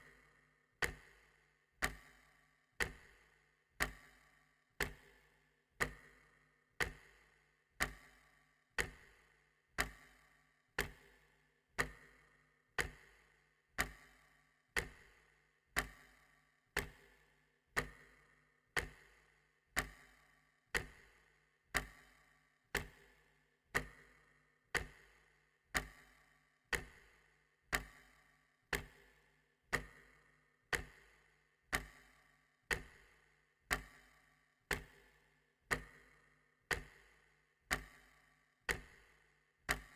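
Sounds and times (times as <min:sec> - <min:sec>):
clock ticking: 0:00.8 - 0:01.2, 0:01.8 - 0:12.2, 0:12.8 - 0:39.9.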